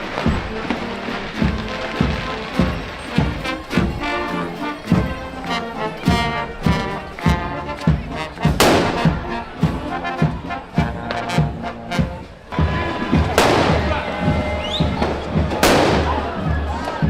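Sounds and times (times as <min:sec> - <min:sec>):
marching brass band playing: 0:00.0 - 0:17.0
steady drum beat: 0:00.0 - 0:17.0.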